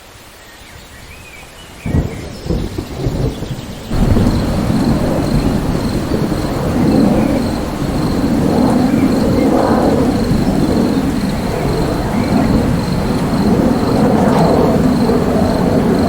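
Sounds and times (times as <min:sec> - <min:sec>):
rain hiss: 0:00.0 - 0:16.0
thunder rumble: 0:01.0 - 0:16.0.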